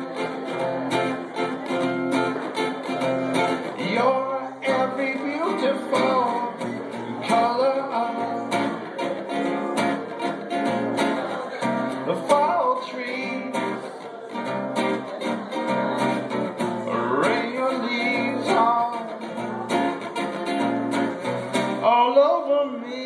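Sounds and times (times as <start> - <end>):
acoustic guitar strumming: 0.0 - 23.0
man singing: 2.5 - 23.0.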